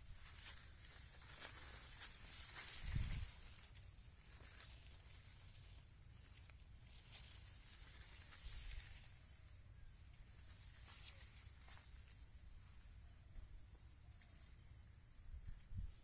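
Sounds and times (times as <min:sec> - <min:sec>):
leaves rustling: 0:00.0 - 0:12.9
insects chirping: 0:00.0 - 0:16.0.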